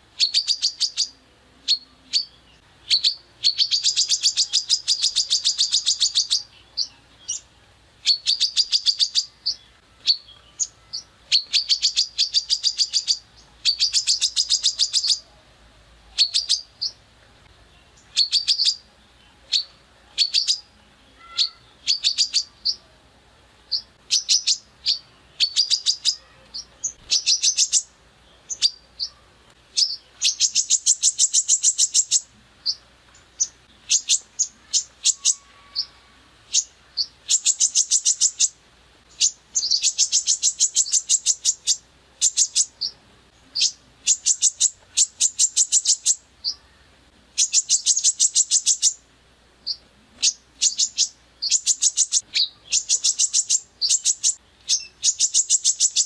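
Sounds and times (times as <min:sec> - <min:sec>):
songbird sharp clicking song: 0:00.2 - 0:15.2, 0:16.2 - 0:18.8, 0:19.5 - 0:20.7, 0:23.7 - 0:27.9, 0:28.5 - 0:35.9, 0:36.5 - 0:46.6, 0:47.4 - 0:49.0, 0:49.6 - 0:56.0.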